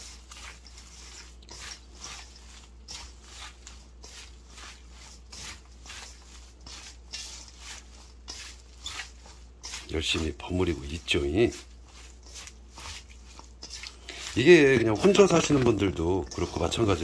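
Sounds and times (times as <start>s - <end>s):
wet rustling of vegetables mixed: 0.0s - 17.0s.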